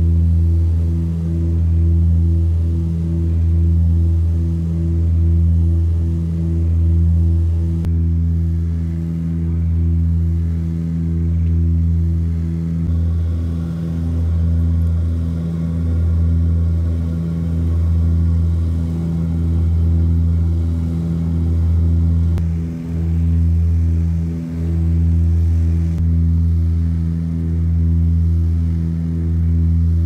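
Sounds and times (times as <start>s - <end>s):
turboprop engines droning in cabin: 0.0s - 30.0s.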